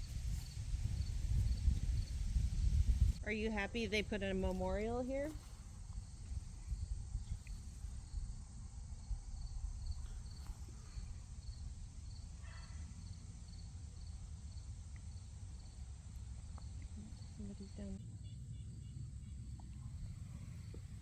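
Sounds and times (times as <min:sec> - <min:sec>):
cricket chirping: 0:00.0 - 0:21.0
low outdoor rumble: 0:00.0 - 0:21.0.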